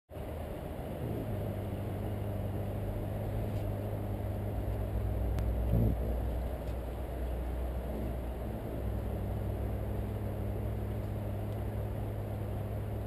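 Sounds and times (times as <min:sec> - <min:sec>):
low engine hum: 0:00.1 - 0:13.0.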